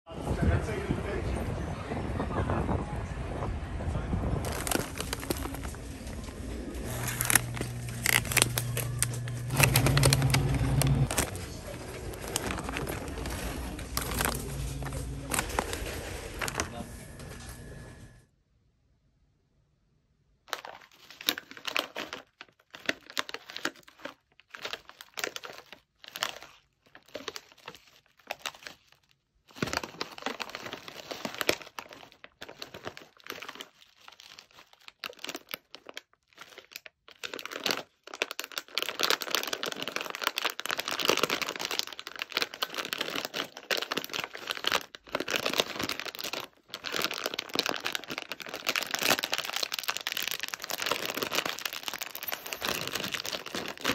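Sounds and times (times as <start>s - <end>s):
plastic snack bag crinkling: 4.4s - 17.3s, 20.5s - 53.9s.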